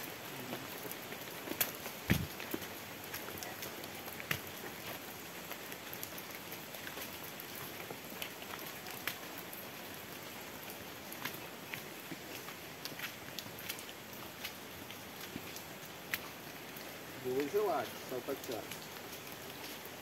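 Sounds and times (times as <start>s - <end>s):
light rain on foliage: 0.0s - 20.0s.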